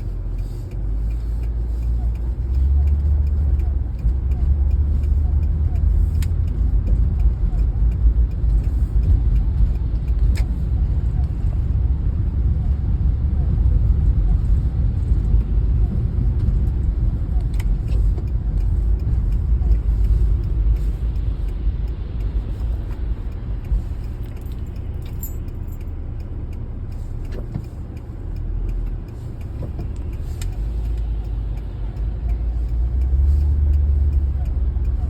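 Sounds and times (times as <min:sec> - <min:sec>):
car rumbling while driving: 0:00.0 - 0:35.0.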